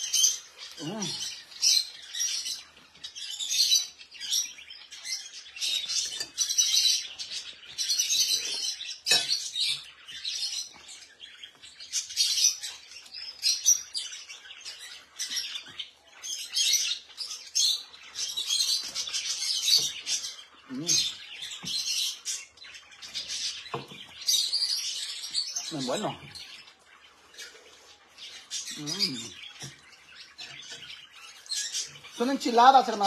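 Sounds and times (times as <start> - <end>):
caged birds chirping: 0.0 - 33.0.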